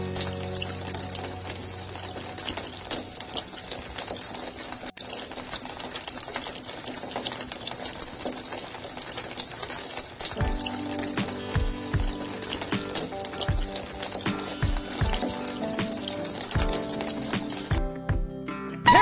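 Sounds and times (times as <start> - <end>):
liquid gushing through hose: 0.0 - 17.8.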